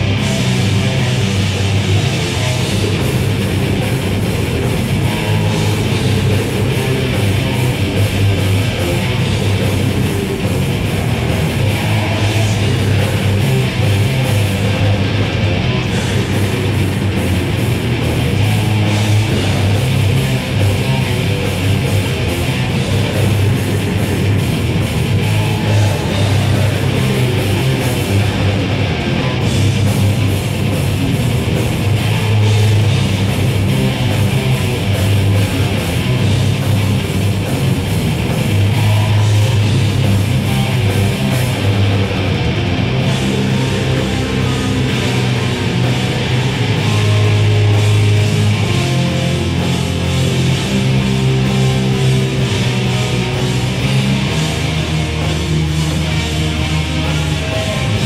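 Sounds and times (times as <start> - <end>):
distorted electric guitar: 0.0 - 58.0
drum kit: 0.0 - 58.0
heavy metal band playing: 0.0 - 58.0.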